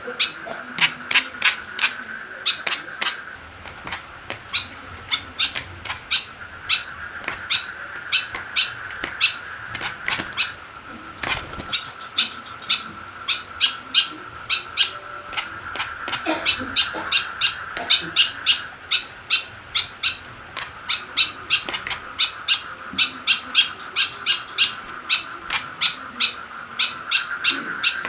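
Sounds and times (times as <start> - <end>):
woodswallow harsh calls: 0.0 - 28.0.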